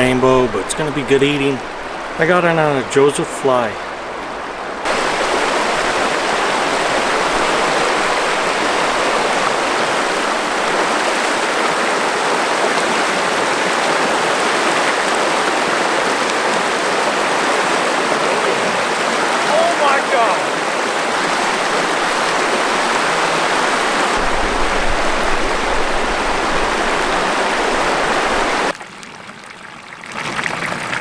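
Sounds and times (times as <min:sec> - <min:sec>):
river water rushing: 0:00.0 - 0:28.7.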